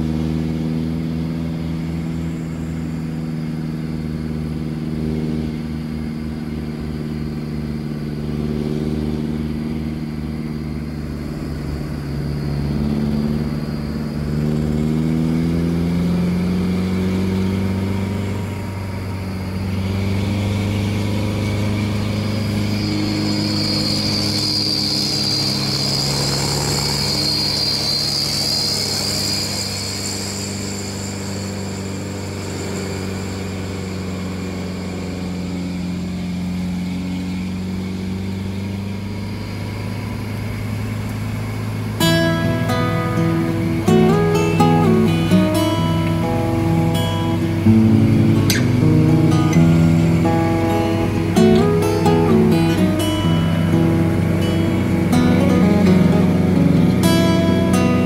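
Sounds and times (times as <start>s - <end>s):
high whine: 0.0s - 58.0s
truck engine running under load: 0.0s - 58.0s.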